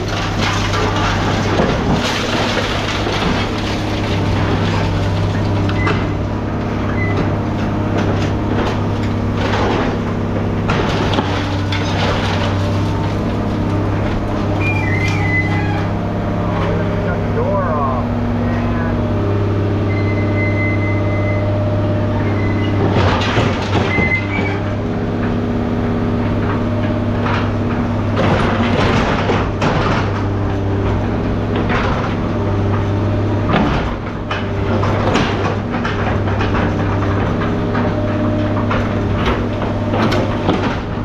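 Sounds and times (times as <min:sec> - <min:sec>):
scrap metal clanking and banging: 0:00.0 - 0:18.4, 0:21.8 - 0:41.0
engine running: 0:00.0 - 0:41.0.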